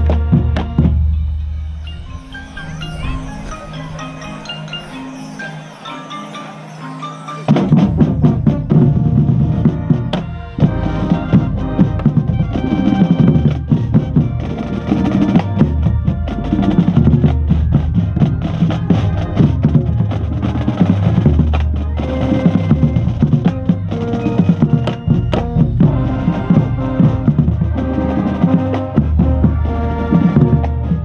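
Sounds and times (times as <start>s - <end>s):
marching band playing: 0.0s - 31.0s.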